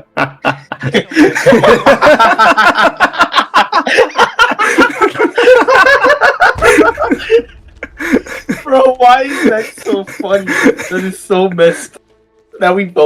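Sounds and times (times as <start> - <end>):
men laughing: 0.0 - 12.0.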